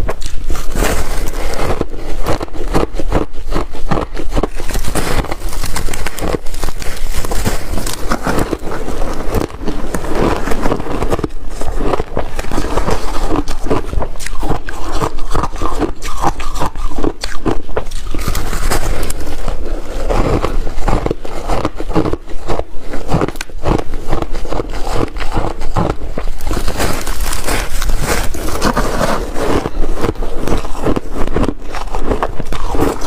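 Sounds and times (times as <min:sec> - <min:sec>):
ice being chewed: 0:00.0 - 0:33.0.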